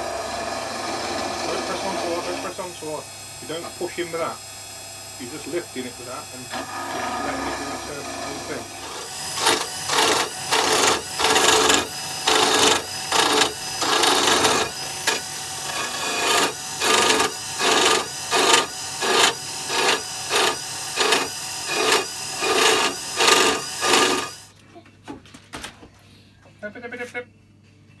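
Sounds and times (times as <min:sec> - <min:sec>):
lathe running hum: 0:00.0 - 0:24.5
turning tool cutting wood: 0:00.0 - 0:24.5.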